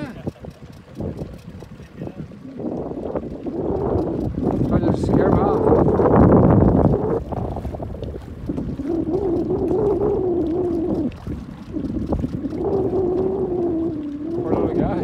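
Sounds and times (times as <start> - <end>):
outboard motor humming: 0.0 - 15.0
wind and water rushing: 0.0 - 15.0.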